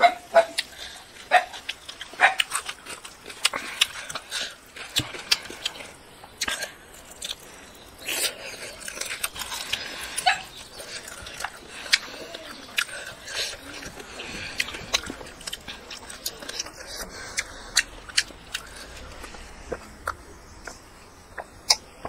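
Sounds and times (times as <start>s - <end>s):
person chewing food: 0.0s - 22.0s
lip smacks: 0.4s - 22.0s
mouth clicks: 0.4s - 22.0s.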